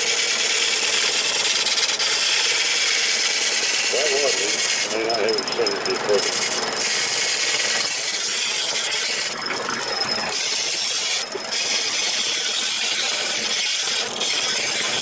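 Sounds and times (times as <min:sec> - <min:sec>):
lathe tool scraping wood: 0:00.0 - 0:15.0.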